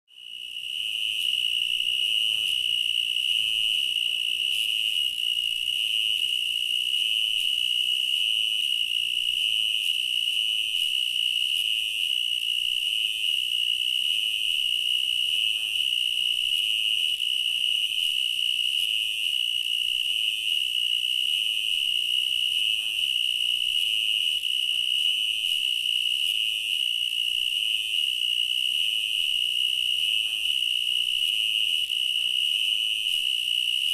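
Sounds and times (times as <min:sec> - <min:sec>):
cricket chirping trill: 0:00.1 - 0:33.9.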